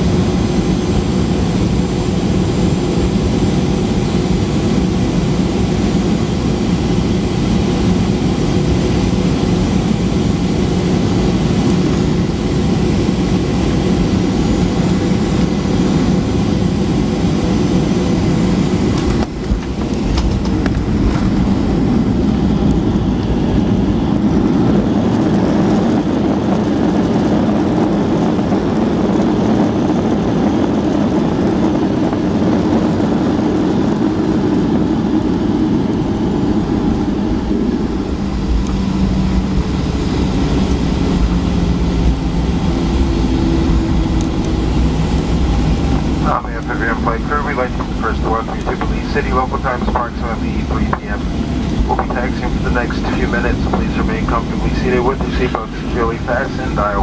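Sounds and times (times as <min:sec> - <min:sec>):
jet engine drone in cabin: 0:00.0 - 0:57.0
rushing rumble of runway rollout: 0:00.0 - 0:57.0.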